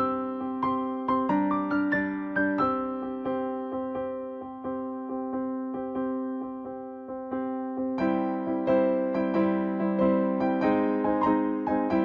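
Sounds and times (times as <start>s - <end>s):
gentle keyboard tune: 0.0s - 12.0s.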